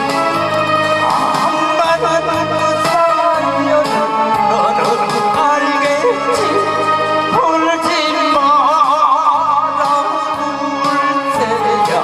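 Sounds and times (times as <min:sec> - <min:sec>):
backing track music: 0:00.0 - 0:12.0
man singing with vibrato: 0:00.0 - 0:12.0.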